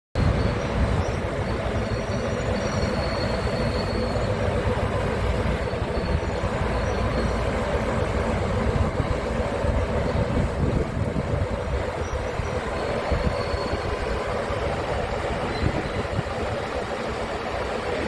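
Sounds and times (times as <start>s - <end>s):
diesel truck engine running: 0.2s - 18.0s
faint high whine: 0.2s - 18.0s.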